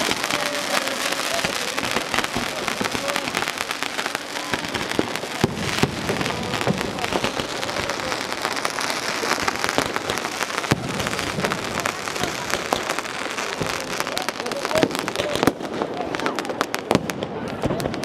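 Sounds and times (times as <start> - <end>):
fireworks crackling and popping: 0.0 - 18.0
loud firework bangs: 0.0 - 18.0.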